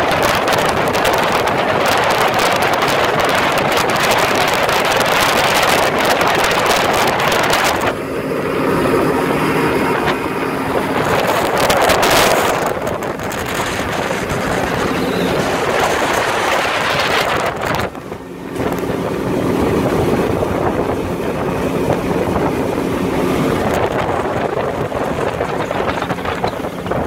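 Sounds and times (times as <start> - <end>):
outboard motor drone: 0.0 - 27.0
water rushing past hull: 0.0 - 27.0
wind noise on microphone: 0.0 - 27.0.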